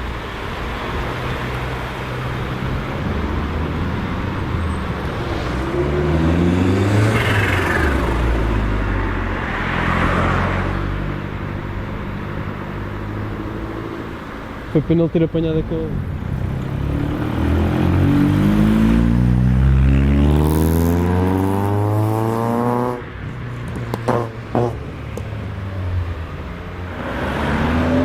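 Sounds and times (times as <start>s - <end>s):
car engines accelerating: 0.0s - 28.0s.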